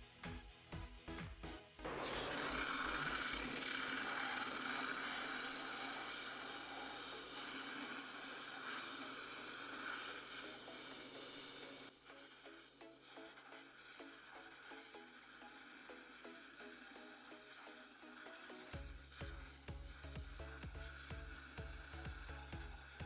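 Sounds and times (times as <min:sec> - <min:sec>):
pressurised cleaning jet hissing: 0:01.8 - 0:23.0.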